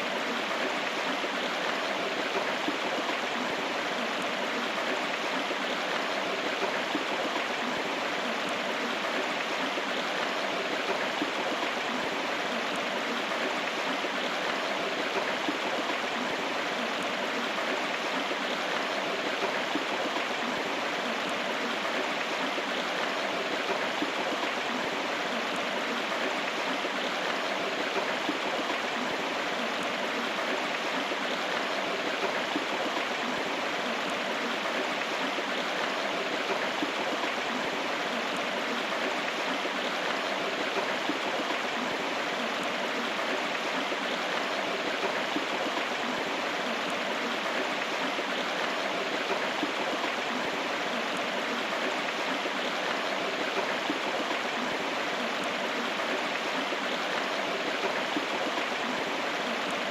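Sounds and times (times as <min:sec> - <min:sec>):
river water rushing over rocks: 0:00.0 - 0:59.9.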